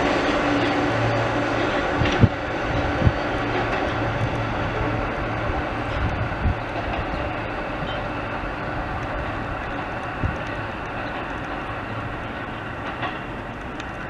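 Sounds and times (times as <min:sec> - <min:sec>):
subway train running on rails: 0:00.0 - 0:14.0
wheels clacking over track: 0:00.0 - 0:14.0.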